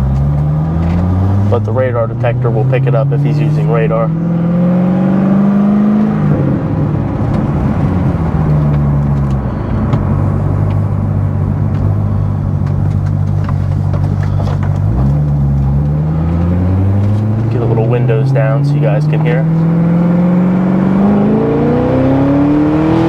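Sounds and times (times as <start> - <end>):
car engine pulling through gears: 0.0 - 23.0.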